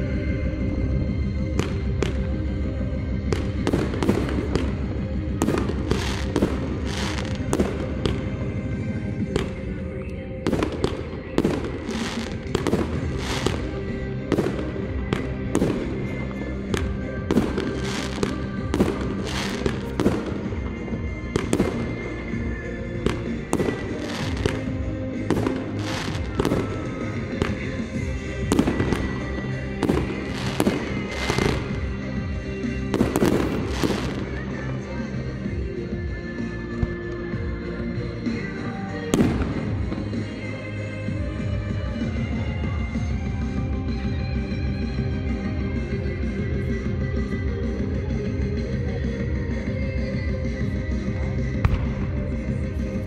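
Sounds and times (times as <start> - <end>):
loud music over sound system: 0.0 - 53.0
fireworks bangs and crackles: 0.1 - 35.6, 38.2 - 48.6, 50.0 - 53.0.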